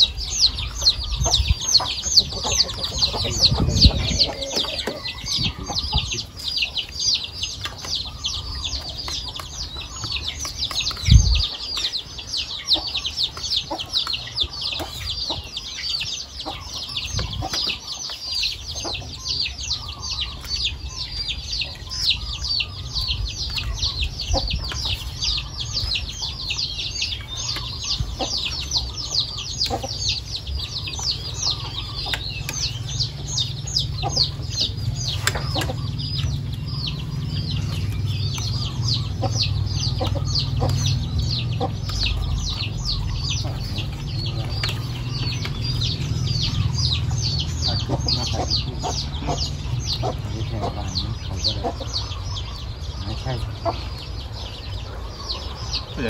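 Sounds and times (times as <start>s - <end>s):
rapid high-pitched chirping: 0.0s - 56.0s.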